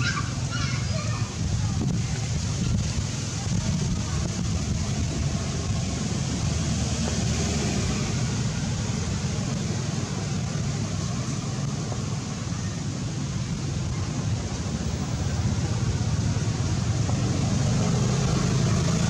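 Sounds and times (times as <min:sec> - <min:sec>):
hiss: 0:00.0 - 0:19.0
steady low rumbling: 0:00.0 - 0:19.0.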